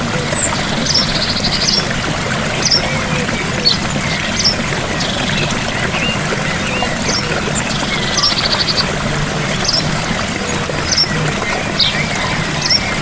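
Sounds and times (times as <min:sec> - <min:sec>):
waterfall splashing: 0:00.0 - 0:13.0.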